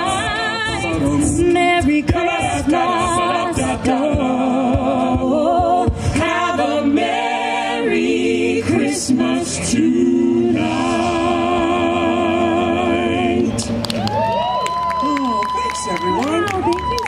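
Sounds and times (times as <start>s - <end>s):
a cappella group singing: 0.0s - 13.8s.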